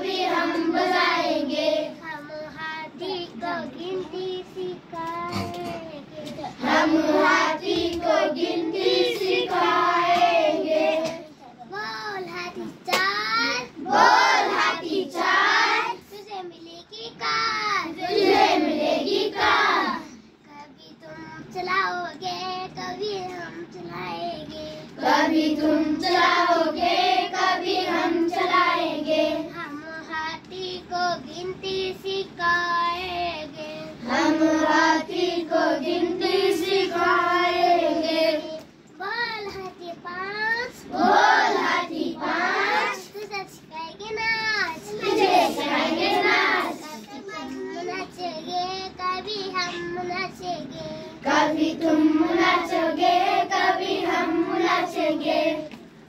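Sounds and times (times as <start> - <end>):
girl singing a rhyme: 0.0 - 55.8.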